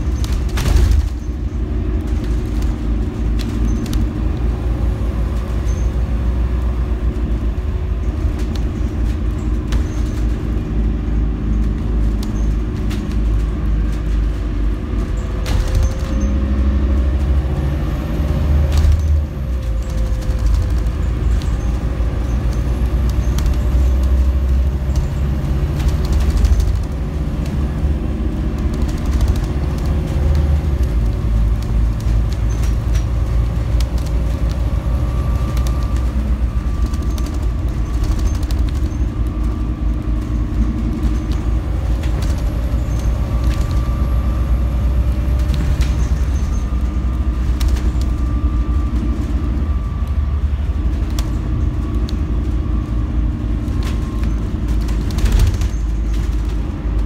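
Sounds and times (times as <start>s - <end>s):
bus body rattling: 0.0s - 57.0s
bus diesel engine rumbling: 0.0s - 57.0s
road noise: 0.0s - 57.0s.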